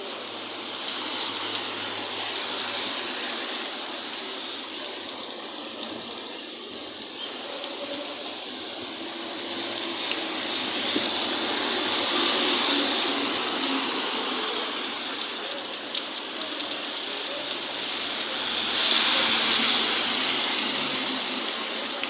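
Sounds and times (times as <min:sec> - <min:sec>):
heavy rain: 0:00.0 - 0:22.0
running water: 0:00.0 - 0:22.0.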